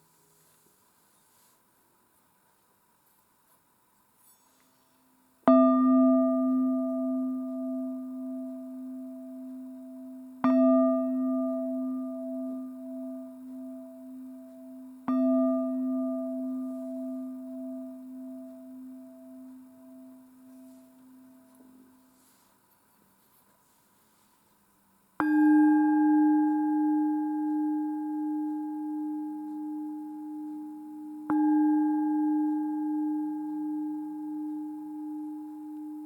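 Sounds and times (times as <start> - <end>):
singing bowl ringing: 4.2 - 22.5, 25.2 - 36.0.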